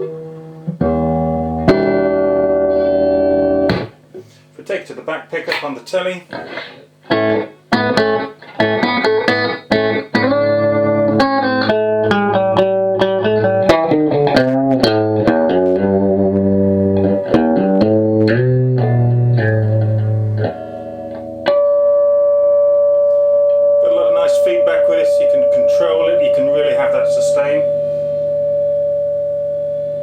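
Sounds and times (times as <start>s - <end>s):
electric guitar lead line: 0.0s - 4.4s, 5.4s - 30.0s.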